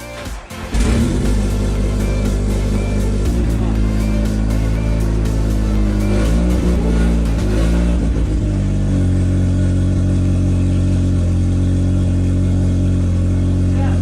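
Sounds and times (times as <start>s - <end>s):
car engine idling: 0.6s - 14.0s.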